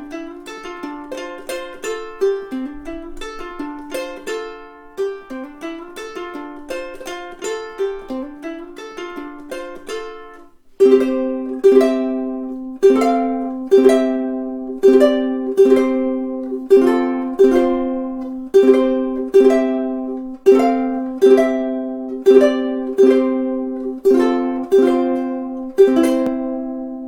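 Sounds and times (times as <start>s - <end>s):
ukulele strumming chords: 0.0s - 27.0s.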